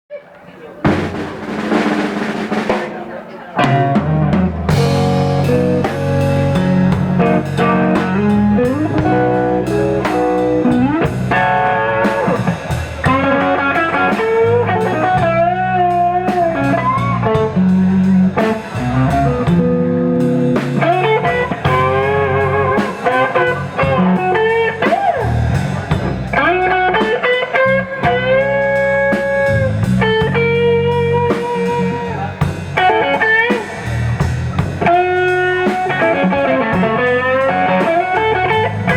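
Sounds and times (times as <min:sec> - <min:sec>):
electric guitar lead: 0:00.1 - 0:38.9
bass guitar: 0:00.8 - 0:38.9
drum kit: 0:00.8 - 0:38.9.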